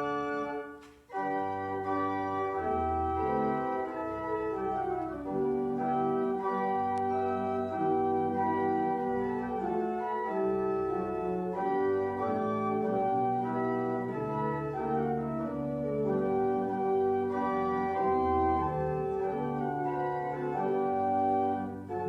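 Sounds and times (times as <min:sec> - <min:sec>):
organ sustained chords: 0:00.0 - 0:22.0.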